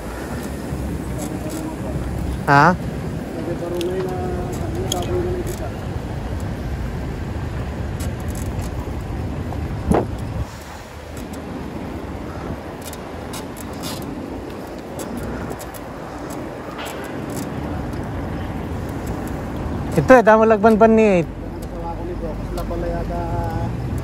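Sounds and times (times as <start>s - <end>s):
traffic: 0.0s - 24.0s
wind rumble: 0.0s - 24.0s.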